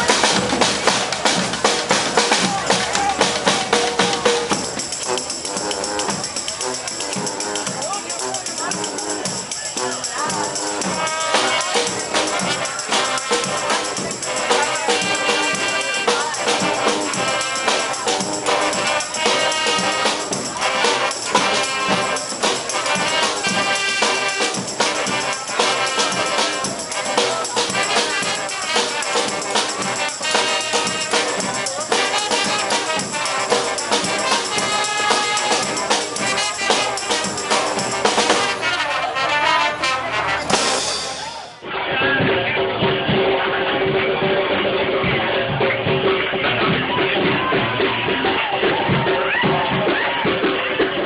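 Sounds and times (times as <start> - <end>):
percussion beat: 0.0 - 42.3, 44.8 - 51.0
trumpets and trombones: 0.0 - 50.2.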